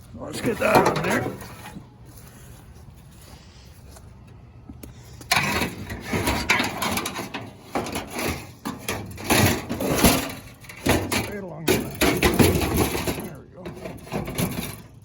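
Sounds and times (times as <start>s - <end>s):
scrap metal clattering and scraping: 0.0s - 3.3s, 5.2s - 15.0s.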